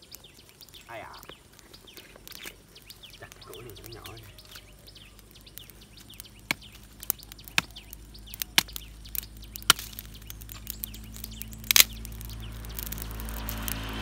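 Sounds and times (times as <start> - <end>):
campfire twigs crackling: 0.0 - 14.0.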